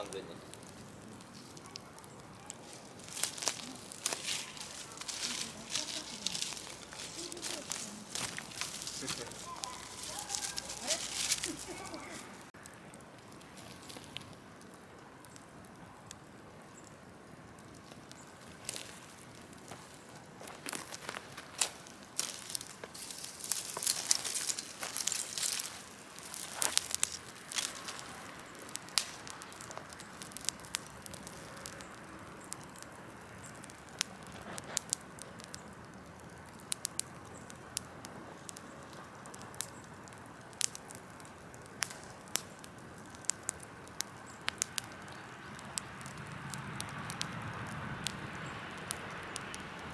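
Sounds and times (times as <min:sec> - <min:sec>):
bonfire crackling and popping: 0:00.0 - 0:49.9.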